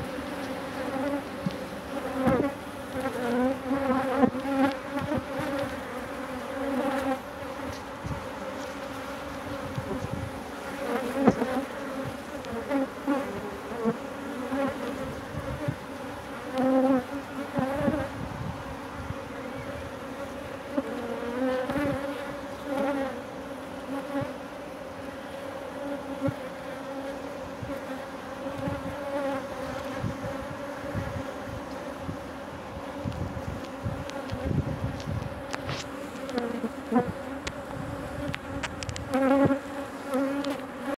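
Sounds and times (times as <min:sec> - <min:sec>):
bees humming: 0:00.0 - 0:40.9.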